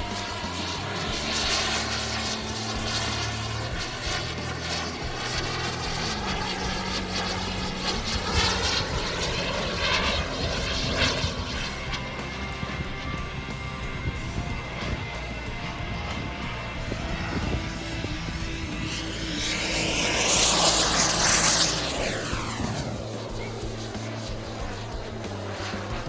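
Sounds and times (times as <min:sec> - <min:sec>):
model jet turbine roar: 0:00.0 - 0:26.0.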